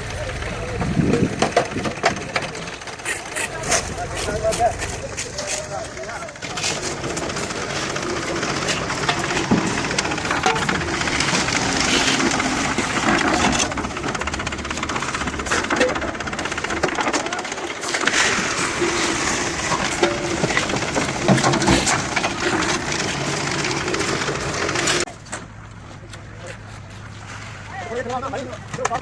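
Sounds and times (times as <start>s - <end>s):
steady noisy background: 0.0s - 27.1s
faint voices: 0.0s - 29.0s.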